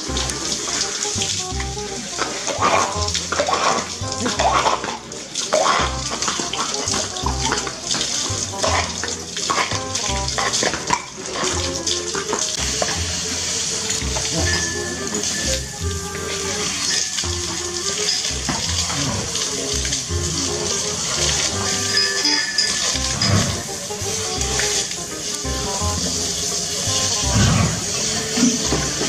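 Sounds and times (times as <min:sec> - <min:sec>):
background music with beat: 0:00.0 - 0:29.0
hose water splashing: 0:00.0 - 0:29.0.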